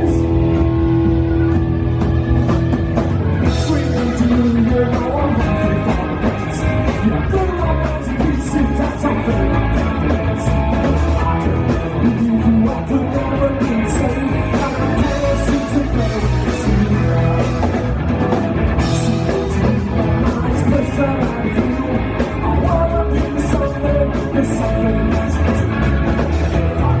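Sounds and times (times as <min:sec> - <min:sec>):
person singing: 0:00.0 - 0:01.8, 0:03.3 - 0:17.8, 0:18.8 - 0:27.0
rock band playing live: 0:00.0 - 0:27.0.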